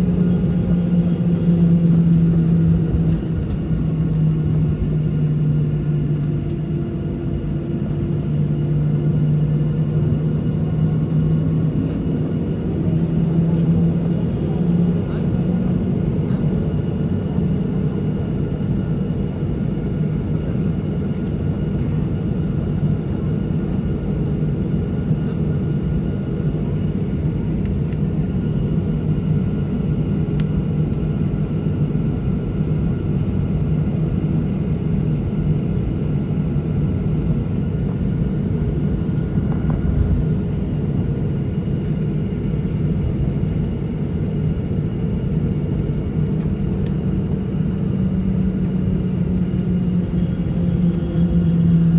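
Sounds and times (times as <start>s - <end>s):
airliner engine rumble in cabin: 0.0s - 51.9s.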